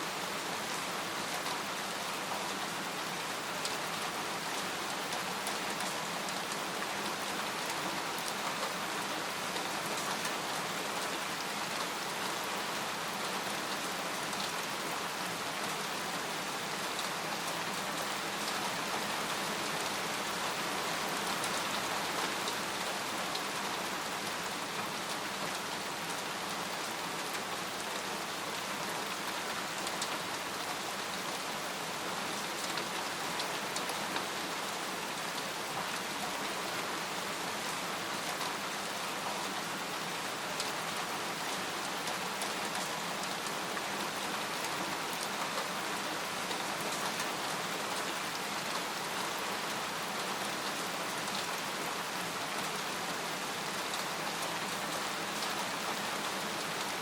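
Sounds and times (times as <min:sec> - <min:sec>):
rain hissing on a tent: 0:00.0 - 0:57.0.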